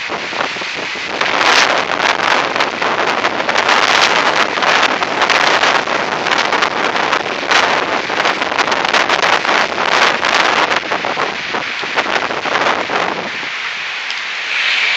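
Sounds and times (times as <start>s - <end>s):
strong wind buffeting microphone: 0.0s - 14.9s.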